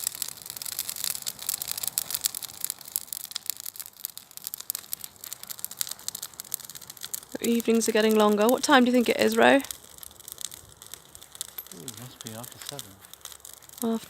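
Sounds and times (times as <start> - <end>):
tree crackling in a bonfire: 0.0 - 14.0.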